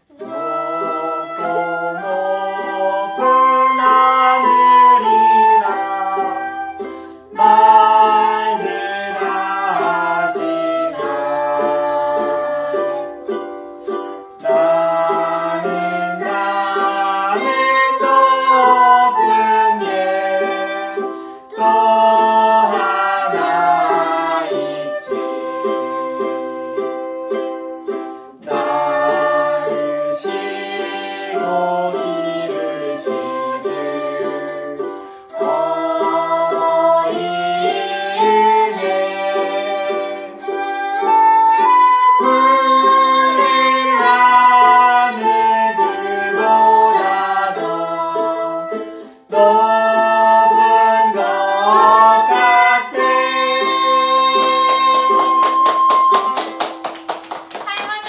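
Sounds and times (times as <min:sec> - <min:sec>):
man woman and girl singing: 0:00.0 - 0:27.5, 0:28.3 - 0:55.6, 0:57.6 - 0:58.0
flute playing melody: 0:00.0 - 0:57.0
ukulele: 0:00.0 - 0:58.0.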